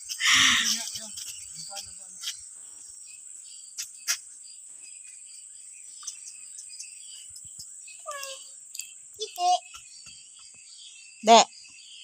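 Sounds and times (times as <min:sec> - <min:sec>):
high-pitched insect drone: 0:00.0 - 0:10.2.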